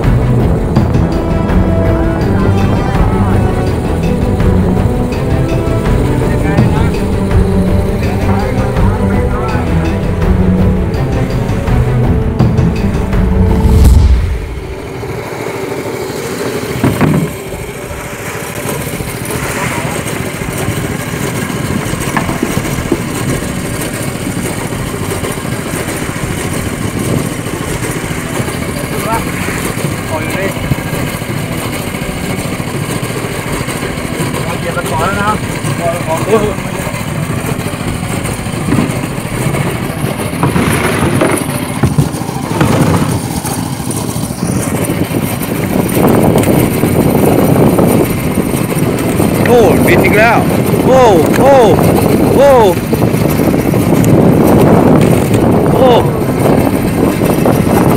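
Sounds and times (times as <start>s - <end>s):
boat engine running: 0.0s - 57.9s
water washing against hull: 0.0s - 57.9s
wind and sea noise: 0.0s - 57.9s.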